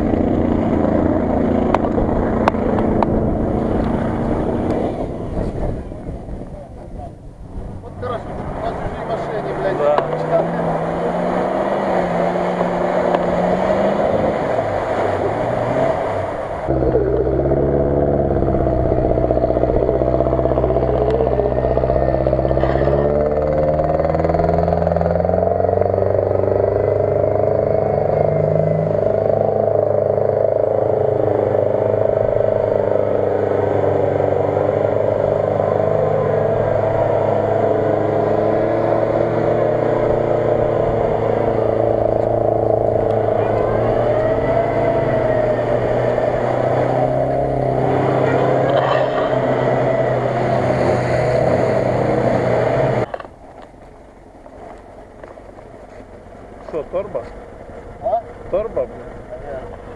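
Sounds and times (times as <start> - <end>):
off-road engine revving in mud: 0.0 - 6.2, 7.8 - 53.2, 55.4 - 59.9.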